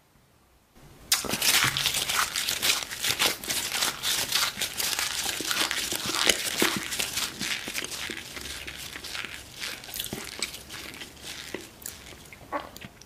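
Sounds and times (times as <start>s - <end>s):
crunching and crinkling chewing: 1.1s - 13.0s.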